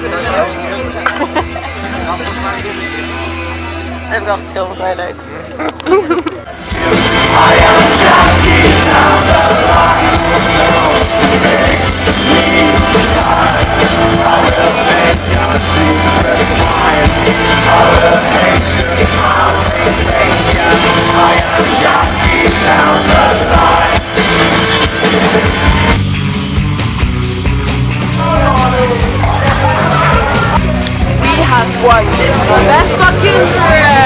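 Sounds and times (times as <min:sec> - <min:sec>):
loud rock music with singing: 0:00.0 - 0:34.0
heavy bass line: 0:06.5 - 0:34.0.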